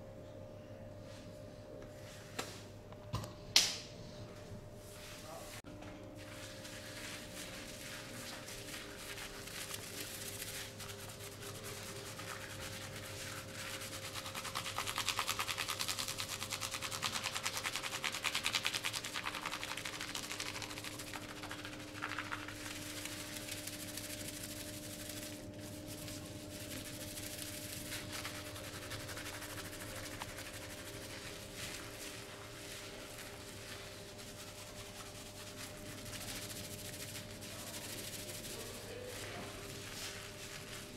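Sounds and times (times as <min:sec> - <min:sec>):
steady low hum: 0:00.0 - 0:40.9
hands rubbing skin: 0:06.2 - 0:40.9.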